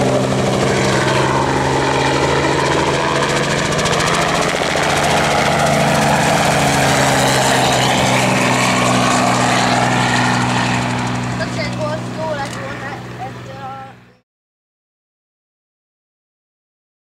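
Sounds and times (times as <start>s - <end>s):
helicopter flying low: 0.0s - 14.2s.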